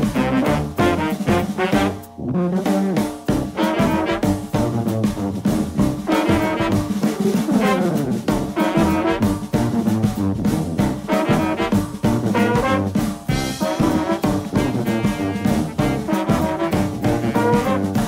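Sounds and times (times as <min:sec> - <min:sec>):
brass-led jazz music: 0:00.0 - 0:18.0.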